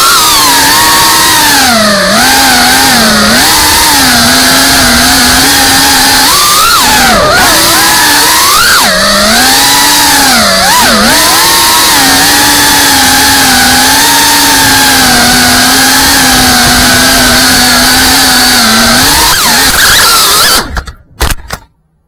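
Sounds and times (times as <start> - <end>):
quadcopter motors whining: 0.0 - 20.9.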